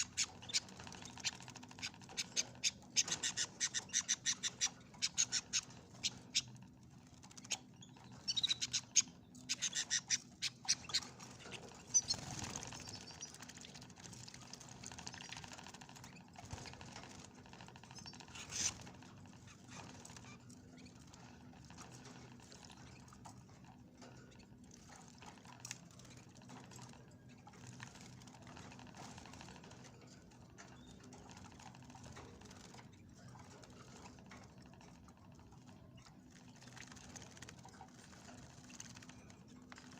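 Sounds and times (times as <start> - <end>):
birds wing-fluttering and splashing: 0.0 - 39.9.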